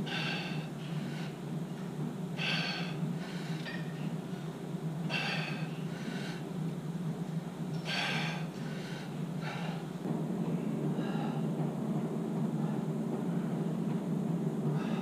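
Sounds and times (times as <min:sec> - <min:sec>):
man breathing hard: 0:00.0 - 0:13.9, 0:14.6 - 0:15.0
steady low hum: 0:00.0 - 0:15.0.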